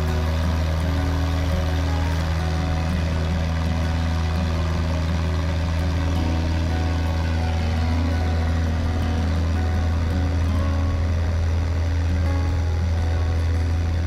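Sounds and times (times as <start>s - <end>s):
airplane engine and propeller droning: 0.0s - 14.0s.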